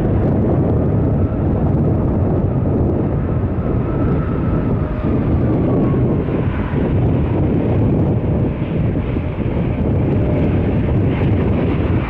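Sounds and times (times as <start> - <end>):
airliner engine rumble: 0.0 - 12.0
high engine whine: 0.0 - 12.0.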